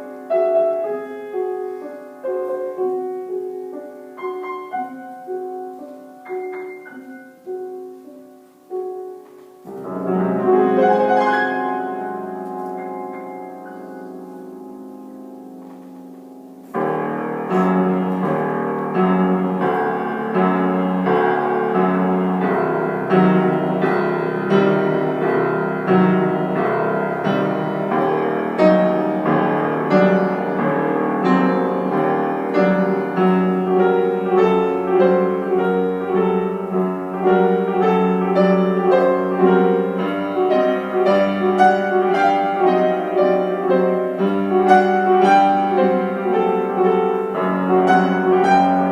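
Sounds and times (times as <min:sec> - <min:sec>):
piano chords: 0:00.0 - 0:48.9.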